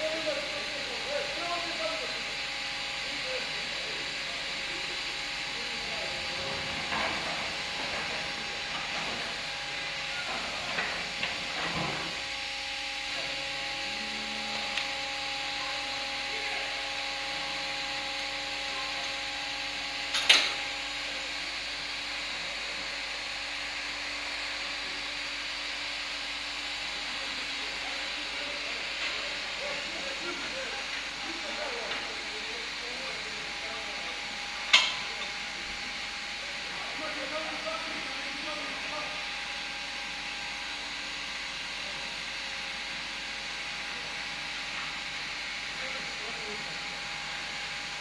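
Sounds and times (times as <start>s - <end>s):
machinery hiss and hum: 0.0s - 48.0s.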